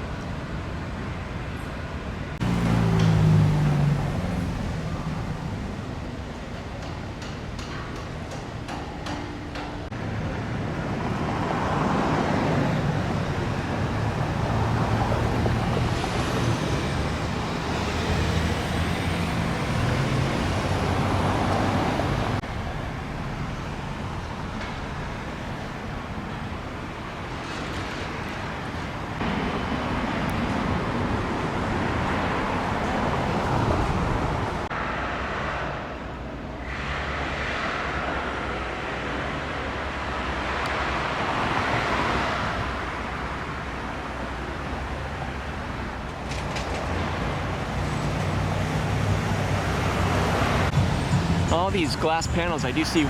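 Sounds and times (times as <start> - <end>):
cars and trucks passing: 0.0 - 53.0.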